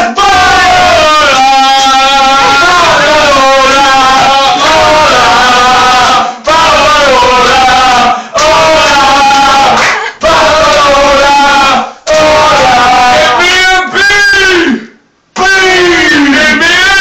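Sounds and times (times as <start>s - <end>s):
men singing a chant: 0.0s - 14.8s.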